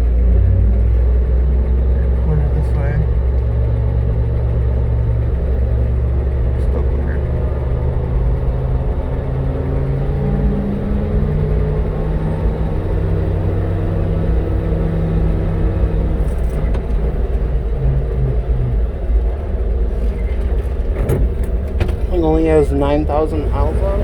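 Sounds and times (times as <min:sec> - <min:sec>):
truck engine rumble from cab: 0:00.0 - 0:24.0.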